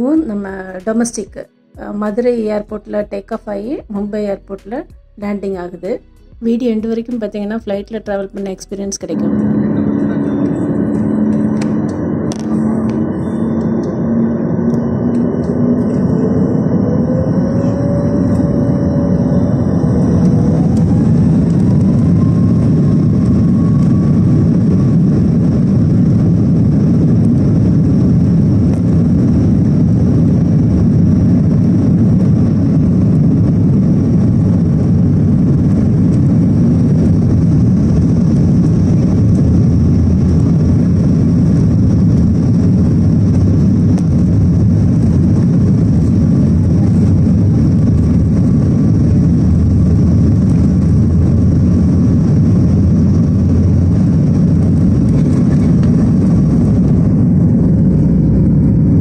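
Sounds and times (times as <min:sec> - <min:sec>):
jet engines rumbling: 0:08.9 - 0:59.0
jet engine whine rising: 0:09.0 - 0:59.0.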